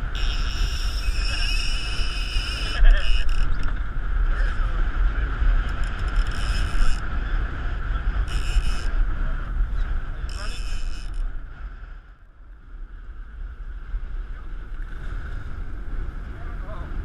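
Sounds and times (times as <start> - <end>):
heavy low rumble: 0.0 - 17.0
wind buffeting microphone: 0.0 - 17.0.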